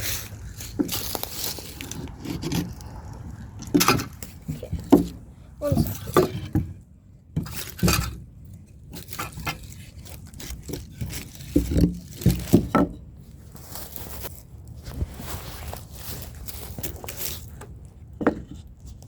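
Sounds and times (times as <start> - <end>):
rustling and scraping: 0.0 - 19.0.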